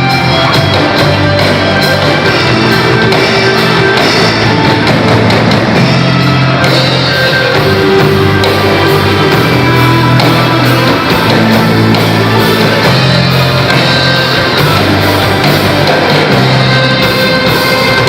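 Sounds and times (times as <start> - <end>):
band playing rock music: 0.0 - 18.0.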